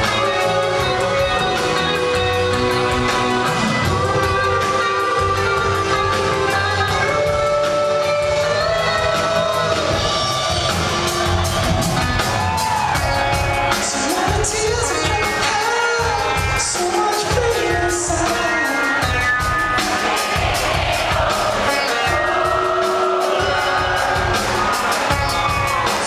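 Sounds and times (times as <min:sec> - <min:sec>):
person singing: 0:00.0 - 0:11.3, 0:13.6 - 0:26.0
drum kit: 0:00.0 - 0:26.0
electric guitars: 0:00.0 - 0:26.0.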